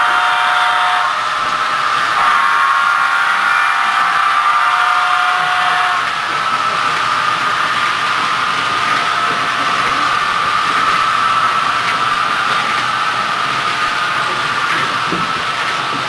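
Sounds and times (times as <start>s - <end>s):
model trains humming: 0.0s - 16.0s.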